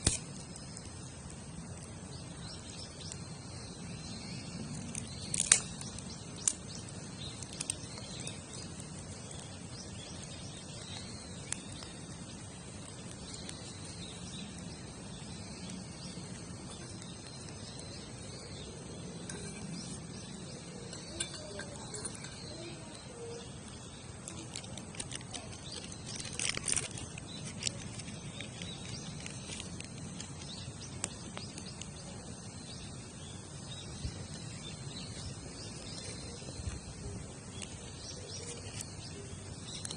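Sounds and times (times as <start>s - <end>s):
campfire burning: 0.0s - 39.9s
fire crackling and popping: 0.0s - 39.9s
insects chirping: 0.0s - 39.9s.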